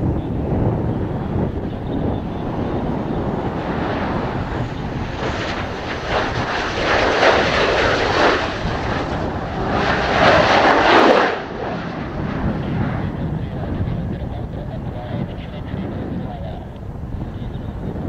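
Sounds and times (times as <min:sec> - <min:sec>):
jet engines roaring: 0:00.0 - 0:18.0
wind rumbling on microphone: 0:00.0 - 0:18.0.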